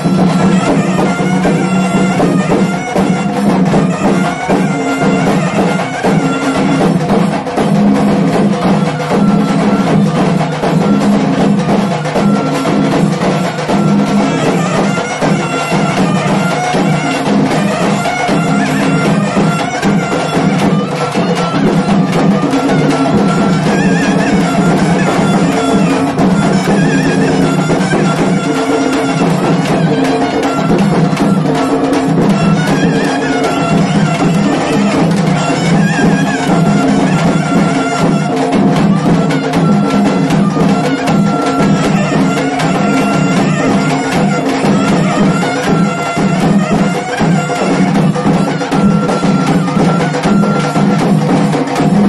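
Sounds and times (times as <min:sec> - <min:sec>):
fast drumming: 0:00.0 - 0:52.0
loud reed pipe melody: 0:00.0 - 0:52.0.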